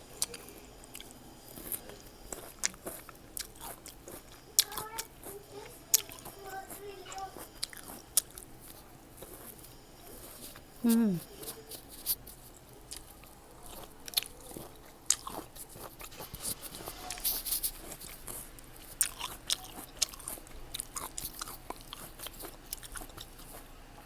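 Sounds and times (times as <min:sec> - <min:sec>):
fruit crunching: 0:00.0 - 0:24.0
wet chewing: 0:00.0 - 0:24.0.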